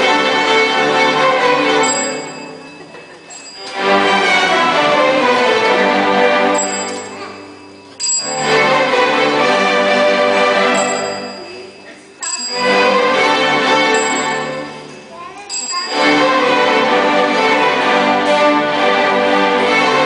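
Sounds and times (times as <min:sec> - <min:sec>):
string orchestra playing: 0:00.0 - 0:12.0, 0:12.6 - 0:15.2, 0:15.9 - 0:20.0.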